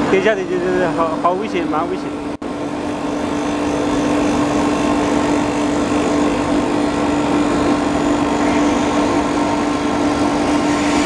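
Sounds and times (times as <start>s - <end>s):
foam-cutting machine humming: 0.0s - 11.0s.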